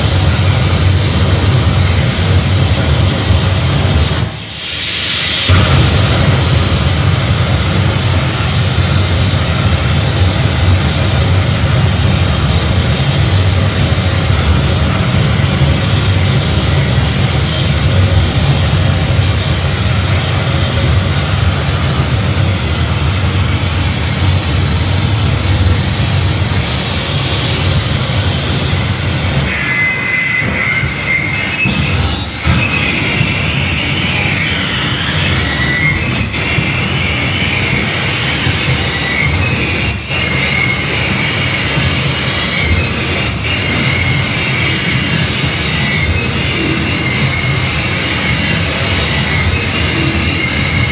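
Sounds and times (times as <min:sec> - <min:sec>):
bass-heavy rumbling drone music: 0:00.0 - 0:50.9
high squealing tone: 0:01.7 - 0:50.9.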